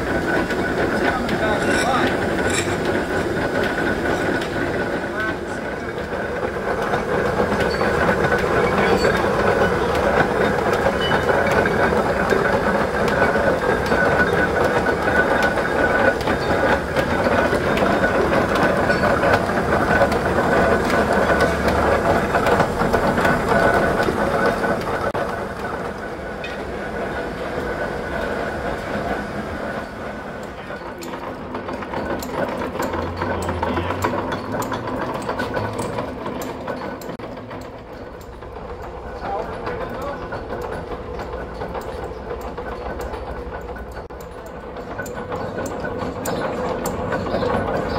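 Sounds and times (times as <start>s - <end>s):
lathe gears clattering: 0.0s - 47.9s.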